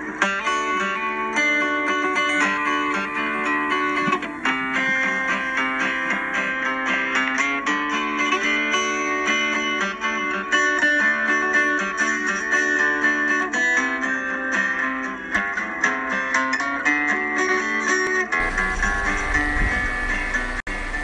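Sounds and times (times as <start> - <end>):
guitar music: 0.0 - 21.0.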